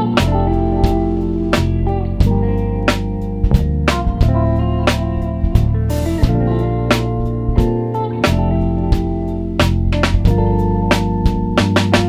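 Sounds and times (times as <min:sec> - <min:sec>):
bass notes: 0:00.0 - 0:12.0
guitar: 0:00.0 - 0:12.0
steady drum beat: 0:00.2 - 0:12.0.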